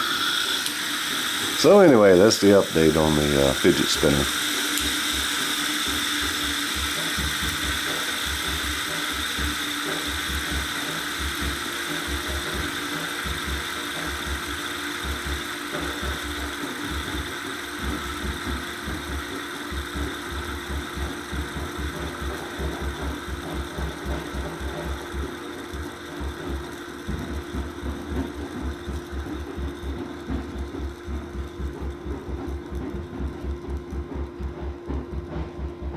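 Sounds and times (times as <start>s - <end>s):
spinner hiss: 0.0s - 31.9s
motor pulsing: 0.0s - 35.9s
steady hum: 0.0s - 35.9s.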